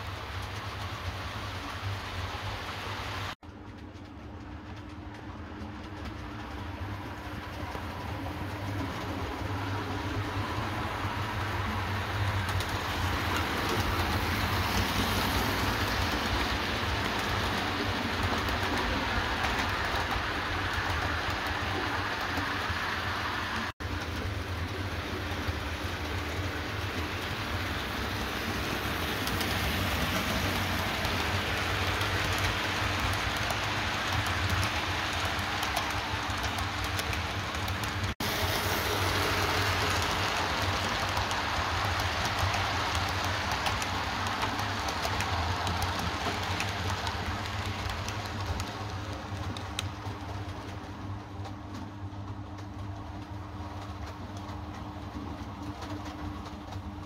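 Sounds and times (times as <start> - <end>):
model train wheels rumbling: 0.0 - 57.0.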